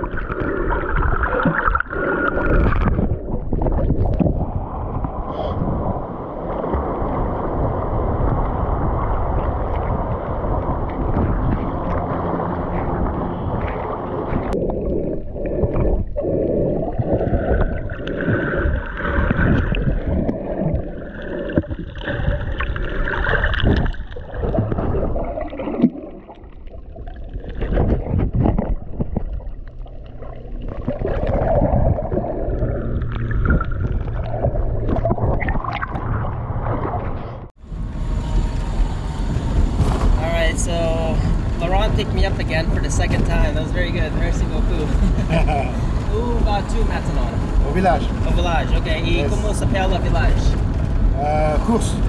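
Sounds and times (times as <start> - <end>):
muffled water sloshing and gurgling: 0.0 - 52.0.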